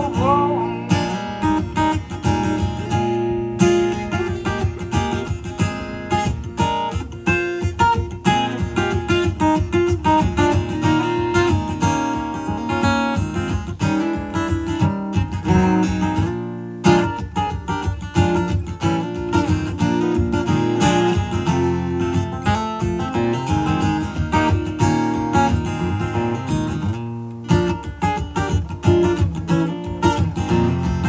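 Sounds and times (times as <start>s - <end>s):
acoustic guitar picked notes: 0.0s - 31.0s.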